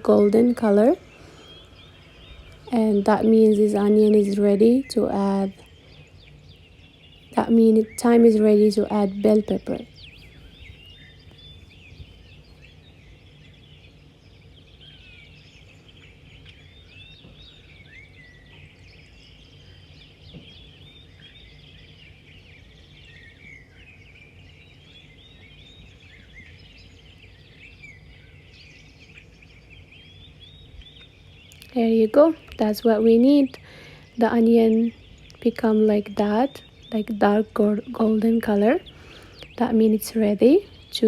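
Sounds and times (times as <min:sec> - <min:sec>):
low steady hum: 0:00.0 - 0:41.0
small birds chirping: 0:00.0 - 0:41.0.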